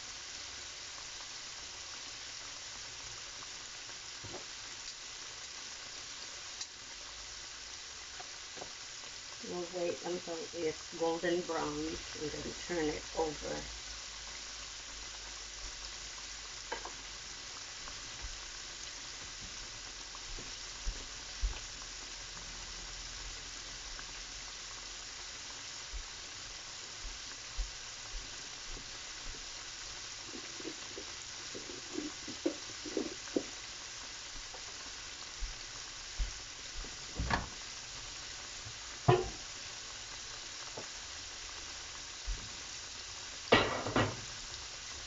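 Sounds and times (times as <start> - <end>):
chicken sizzling in hot oil: 0.0 - 45.0.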